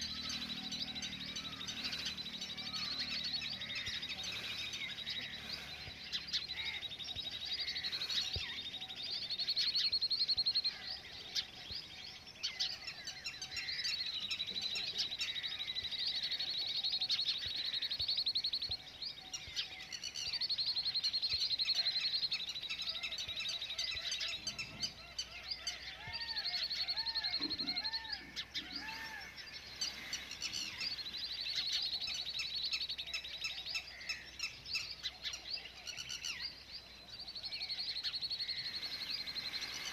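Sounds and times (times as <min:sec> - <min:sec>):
many small birds chirping: 0:00.0 - 0:39.9
rising and falling bird calls: 0:00.0 - 0:39.9.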